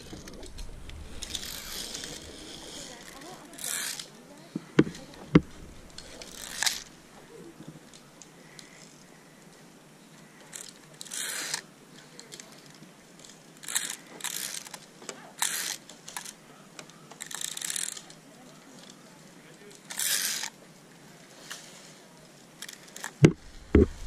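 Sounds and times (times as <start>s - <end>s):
harness clips scraping and rustling: 0.0s - 9.0s, 10.5s - 16.4s, 17.1s - 20.6s, 21.2s - 24.0s.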